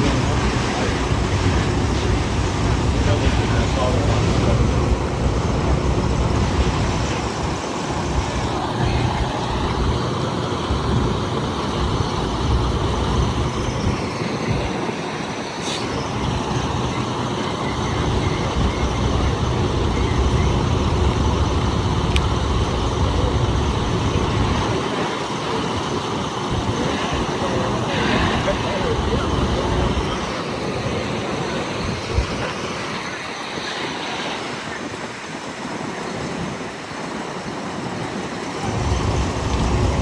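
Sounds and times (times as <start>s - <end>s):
road and vehicle noise: 0.0s - 40.0s.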